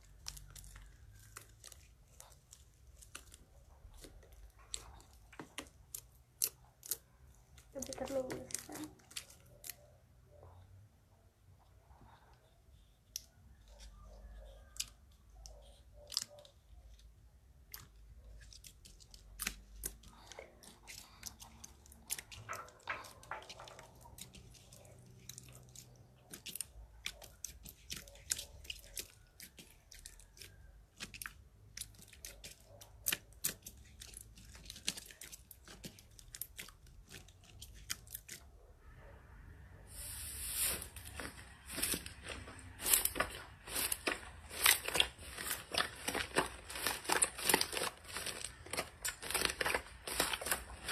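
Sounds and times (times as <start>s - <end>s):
crunchy slime crackling: 0.0s - 10.0s, 13.0s - 38.5s, 40.4s - 50.9s.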